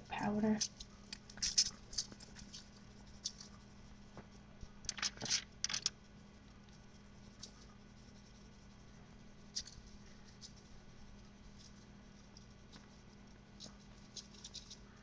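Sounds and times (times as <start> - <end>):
low steady hum: 0.0 - 15.0
spice shaking ticks and scrapes: 0.0 - 15.0.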